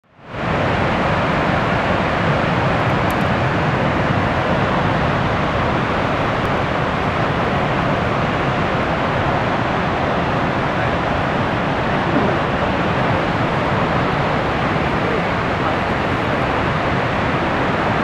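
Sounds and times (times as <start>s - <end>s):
waterfall rushing and rumbling: 0.2s - 18.0s.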